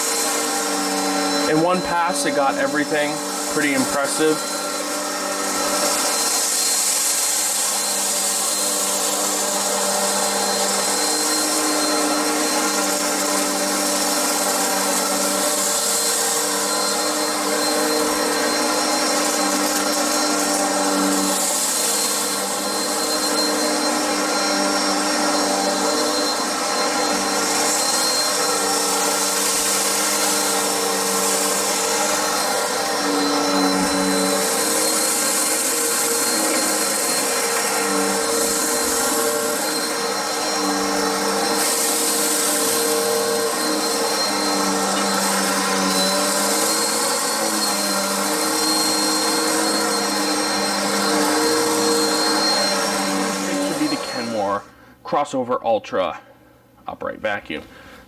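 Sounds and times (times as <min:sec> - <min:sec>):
vacuum cleaner motor whine: 0:00.0 - 0:54.7.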